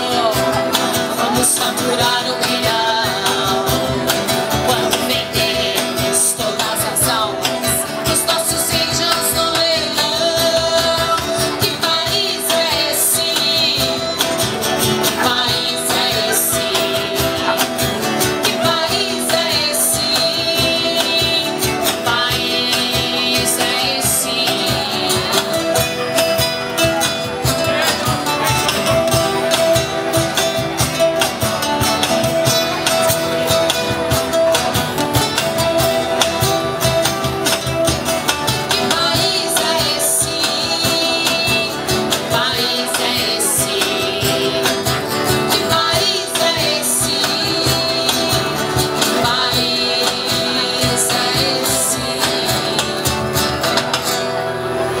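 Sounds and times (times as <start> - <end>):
voices singing: 0.0 - 54.2
cajon beat: 0.0 - 54.3
acoustic guitars strumming: 0.0 - 55.0.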